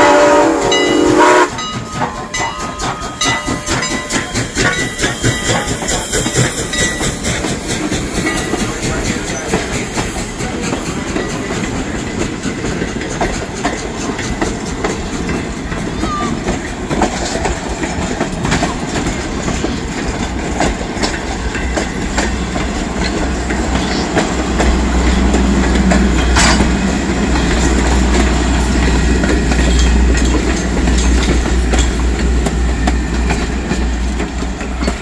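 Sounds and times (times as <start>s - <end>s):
train coaches rumbling: 0.0s - 35.0s
steel wheels clicking over rail joints: 0.2s - 35.0s.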